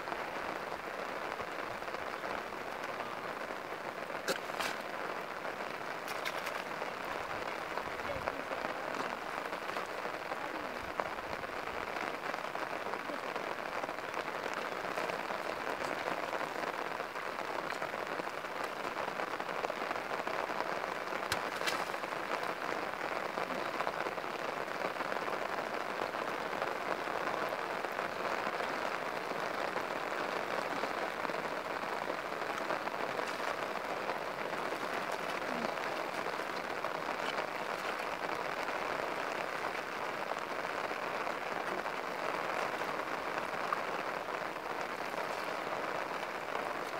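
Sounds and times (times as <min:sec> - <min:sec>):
steady rain on water: 0:00.0 - 0:46.9.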